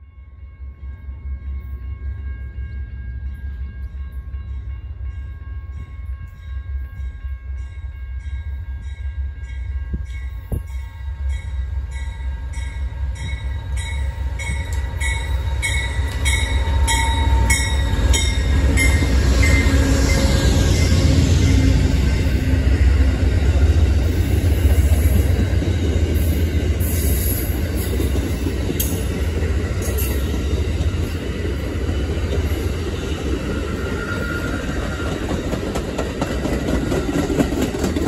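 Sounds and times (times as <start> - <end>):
train engine rumble: 0.0 - 38.0.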